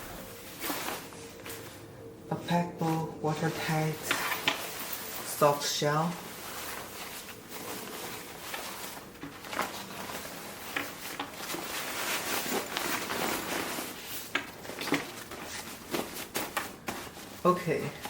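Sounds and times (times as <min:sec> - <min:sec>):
fabric rustling: 0:00.0 - 0:18.0.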